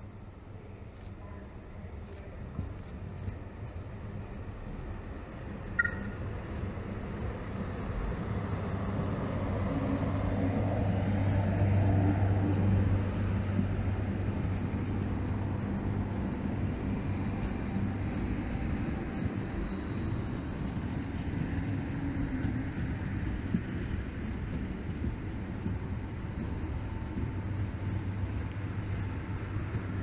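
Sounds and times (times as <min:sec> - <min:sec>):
low hum: 0:00.0 - 0:30.0
train wheels rumbling: 0:02.1 - 0:30.0.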